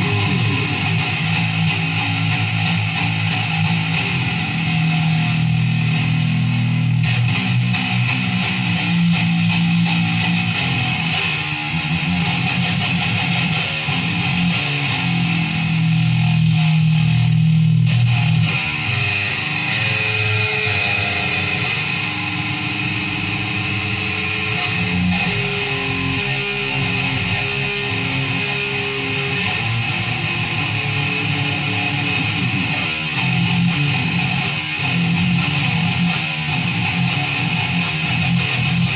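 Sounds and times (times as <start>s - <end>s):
guitar music: 0.0s - 38.9s.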